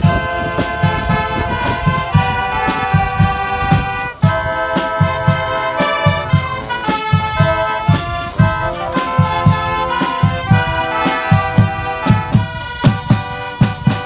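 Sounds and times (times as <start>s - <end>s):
bass drum beat: 0.0s - 14.0s
wind band playing: 0.0s - 14.0s.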